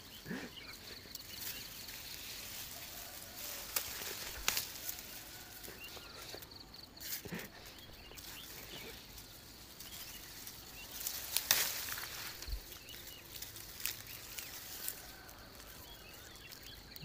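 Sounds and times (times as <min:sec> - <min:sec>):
dry grass rustling and crackling: 0:00.0 - 0:17.0
faint bird chirps: 0:00.0 - 0:17.0.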